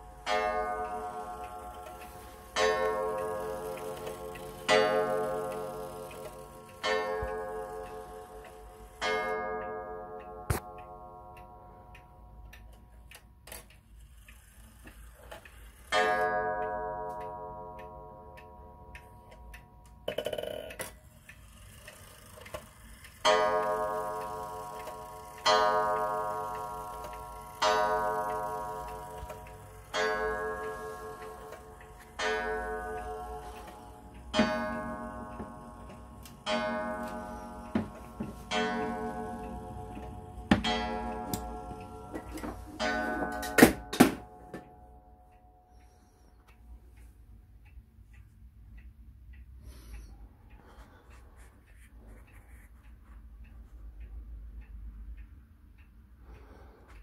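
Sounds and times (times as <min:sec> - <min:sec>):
clock striking: 0:00.0 - 0:46.6
wall clock ticking: 0:00.0 - 0:57.0.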